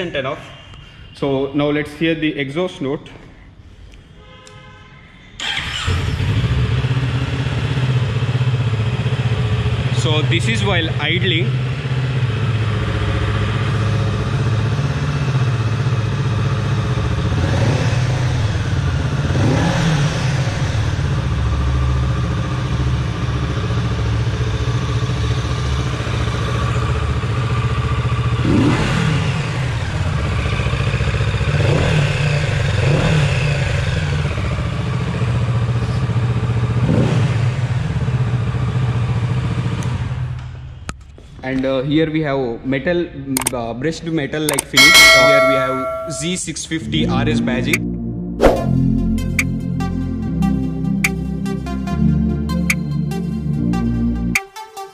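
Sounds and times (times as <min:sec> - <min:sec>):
motorcycle engine idling and revving: 0:05.4 - 0:41.2, 0:44.6 - 0:54.4.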